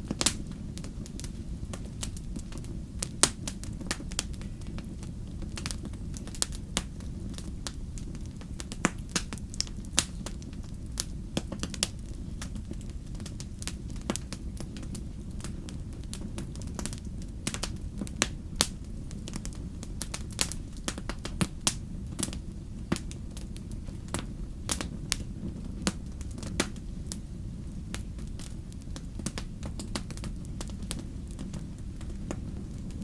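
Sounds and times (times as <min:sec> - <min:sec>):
campfire crackling and popping: 0:00.0 - 0:33.0
low fire rumble: 0:00.0 - 0:33.0.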